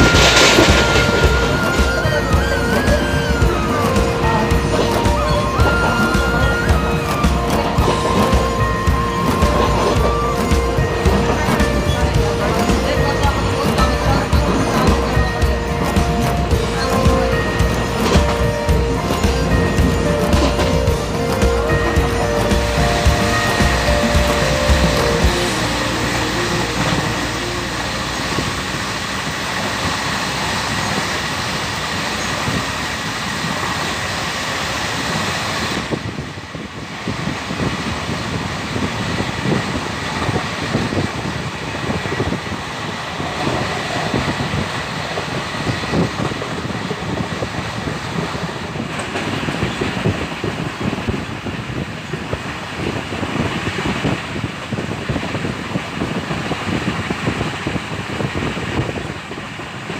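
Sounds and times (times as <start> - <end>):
train rumbling and rattling: 0.0 - 59.9.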